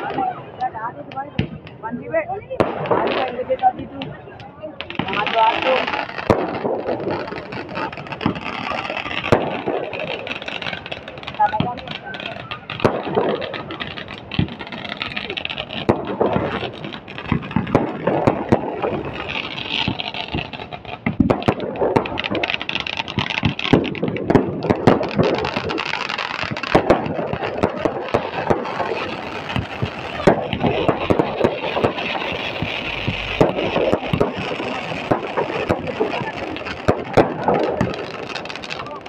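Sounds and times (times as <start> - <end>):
fireworks crackling and popping: 0.0 - 39.0
large crowd noise: 0.0 - 39.0.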